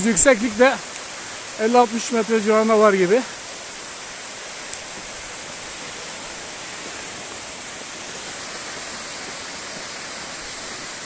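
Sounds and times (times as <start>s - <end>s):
waterfall pouring onto rocks: 0.0s - 11.0s.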